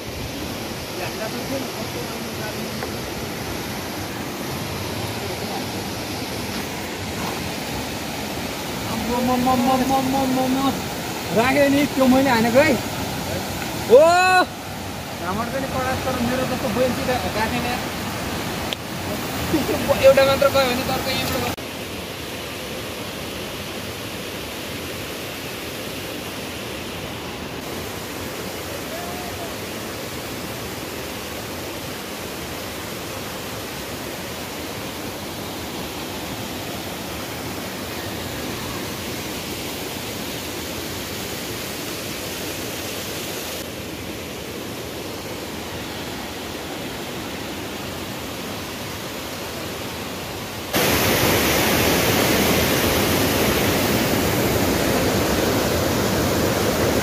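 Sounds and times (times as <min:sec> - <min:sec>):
waterfall rushing over boulders: 0:00.0 - 0:57.0.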